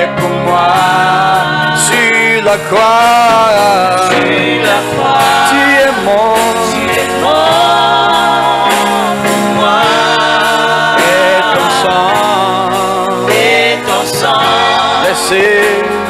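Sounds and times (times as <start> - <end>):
musical accompaniment: 0.0 - 16.0
voices singing with vibrato: 0.0 - 16.0.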